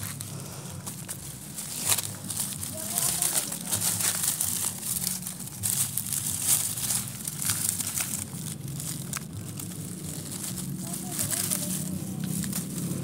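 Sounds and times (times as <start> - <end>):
leaves and undergrowth rustling: 0.0 - 13.0.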